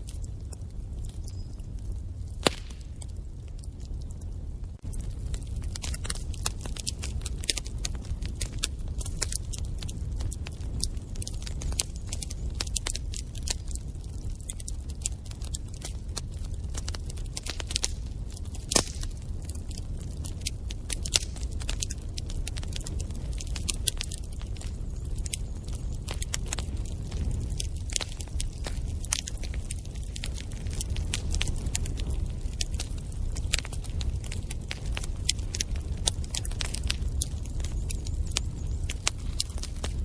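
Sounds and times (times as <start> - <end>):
fire crackling and popping: 0.0 - 40.0
fire rumbling: 0.0 - 40.0.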